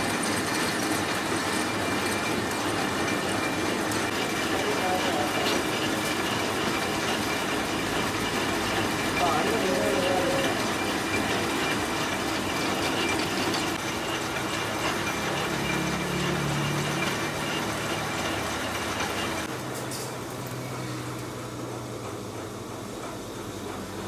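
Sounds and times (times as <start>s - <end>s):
metal lathe whirring: 0.0s - 24.0s.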